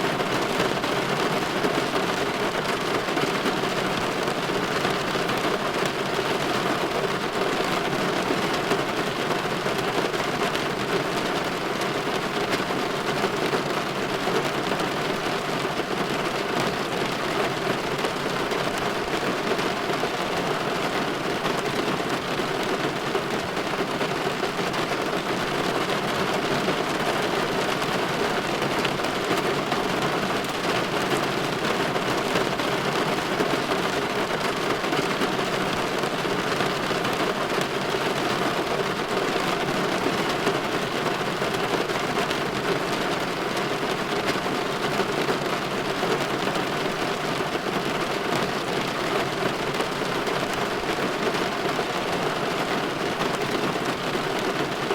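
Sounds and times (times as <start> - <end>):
rain pattering on a window: 0.0 - 54.9.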